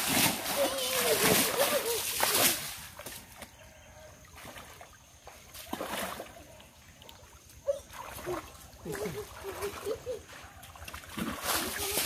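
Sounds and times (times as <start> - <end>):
water splash: 0.0 - 3.4, 4.3 - 12.0
muddy water sloshing: 0.0 - 12.0.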